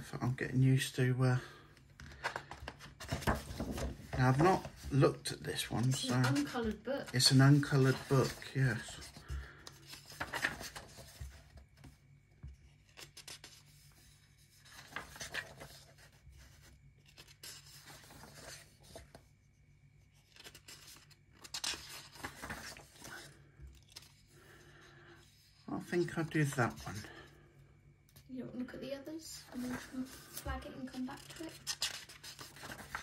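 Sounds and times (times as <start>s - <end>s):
paper pages rustling: 1.8s - 19.3s, 20.0s - 27.2s, 29.4s - 33.0s.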